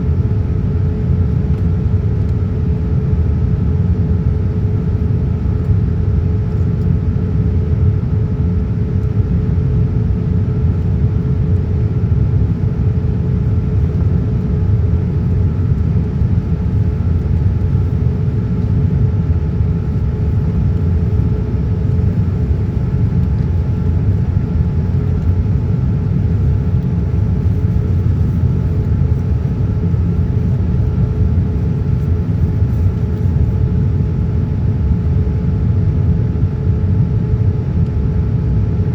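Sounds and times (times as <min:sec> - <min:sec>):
airliner cabin engine rumble: 0:00.0 - 0:38.9
faint steady hums: 0:00.0 - 0:38.9.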